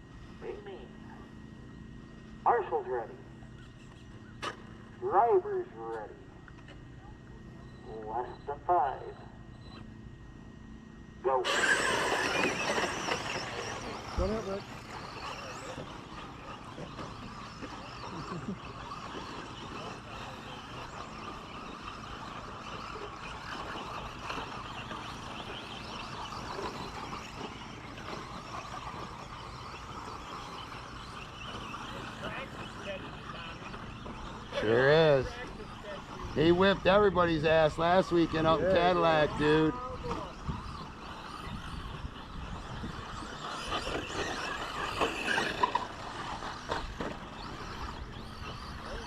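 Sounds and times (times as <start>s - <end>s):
rc truck motors whining: 0.0s - 49.0s.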